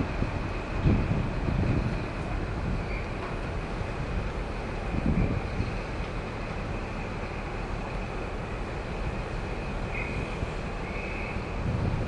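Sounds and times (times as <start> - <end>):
diesel locomotive humming: 0.0 - 12.0.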